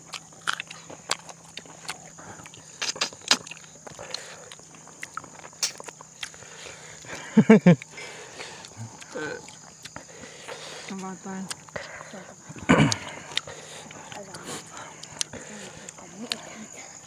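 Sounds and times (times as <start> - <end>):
high insect drone: 0.0 - 17.0
people chewing food: 0.0 - 17.0.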